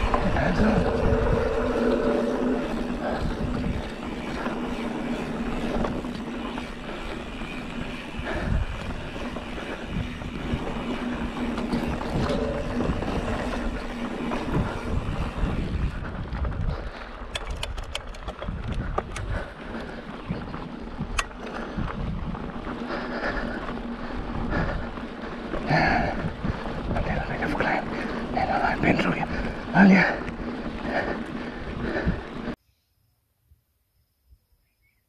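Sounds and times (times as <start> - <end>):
bike rattling and clicking: 0.0 - 32.6
bike tyres rolling on dirt: 0.0 - 32.6
wind on microphone: 0.0 - 32.6.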